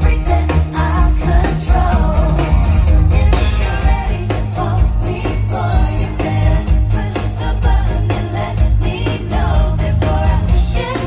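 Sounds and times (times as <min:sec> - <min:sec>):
drum kit: 0:00.0 - 0:11.0
female lead vocals: 0:00.0 - 0:11.0
heavy bass line: 0:00.0 - 0:11.0.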